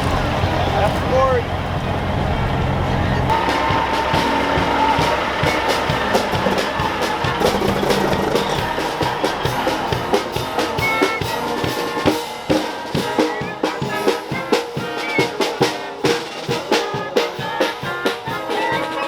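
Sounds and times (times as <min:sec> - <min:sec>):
pitched instrument notes: 0:00.0 - 0:19.0
drum kit beat: 0:03.2 - 0:19.0.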